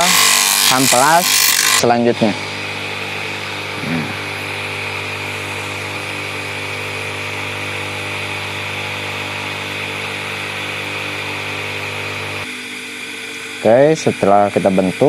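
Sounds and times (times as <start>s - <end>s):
bench grinder whining: 0.0s - 15.0s.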